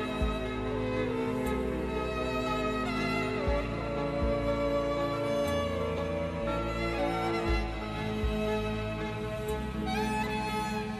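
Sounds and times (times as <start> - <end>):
slow string melody: 0.0 - 10.9.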